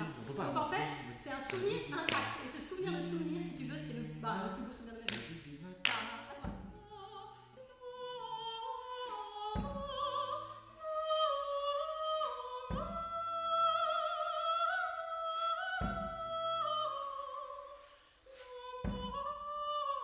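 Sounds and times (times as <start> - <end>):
soprano singing with vibrato: 0.0 - 20.0.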